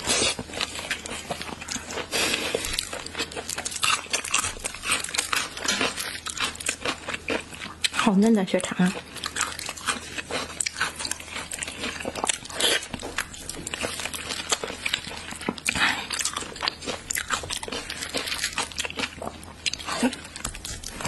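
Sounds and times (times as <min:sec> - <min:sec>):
chewing with mouth clicks and smacks: 0:00.0 - 0:21.0.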